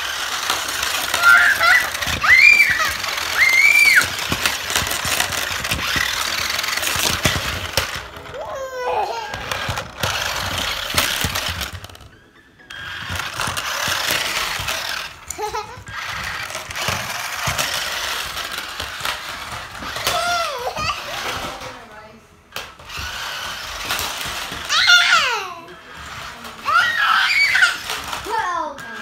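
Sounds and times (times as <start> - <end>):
toy car electric motors whirring: 0.0 - 29.0
wheels clattering on tiles: 0.0 - 29.0.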